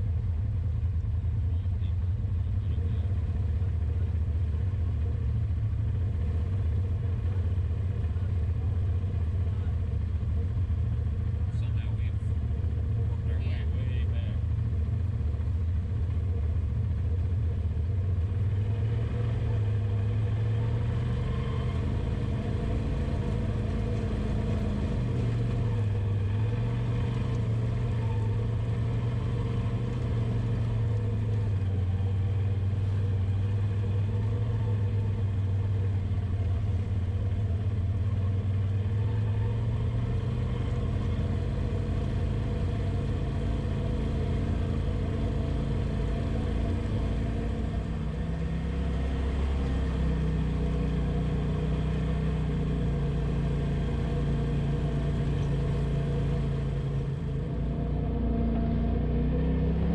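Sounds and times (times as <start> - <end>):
utility vehicle engine droning: 0.0 - 59.9.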